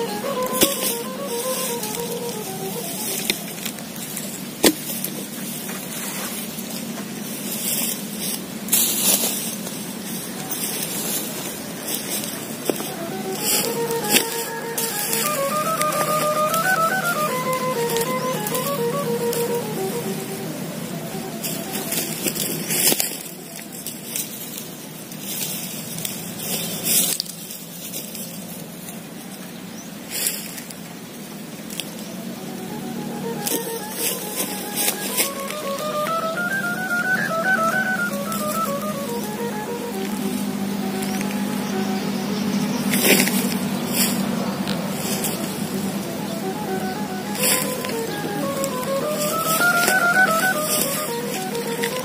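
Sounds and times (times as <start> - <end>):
kite hummer droning: 0.0 - 52.0
wind hissing: 0.0 - 52.0.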